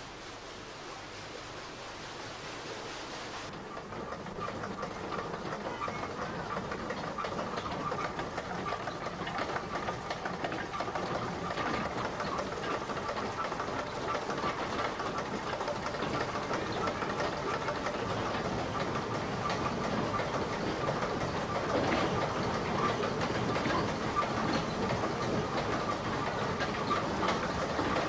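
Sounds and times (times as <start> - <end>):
watermill machinery clattering: 0.0 - 28.0.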